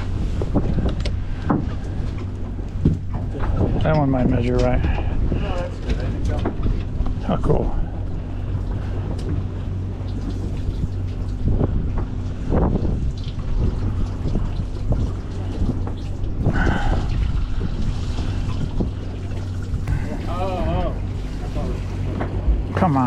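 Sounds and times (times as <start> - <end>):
boat engine humming: 0.0 - 23.0
water sloshing against hull: 0.0 - 23.0
wind buffeting microphone: 0.0 - 23.0.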